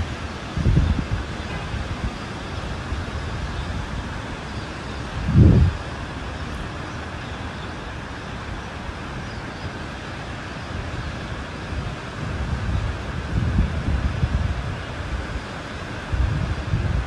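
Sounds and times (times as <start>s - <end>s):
distant road traffic: 0.0s - 17.0s
wind: 0.0s - 17.0s.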